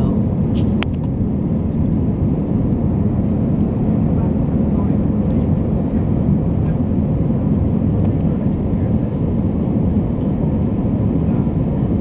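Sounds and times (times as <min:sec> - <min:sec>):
jet cabin roar: 0:00.0 - 0:12.0.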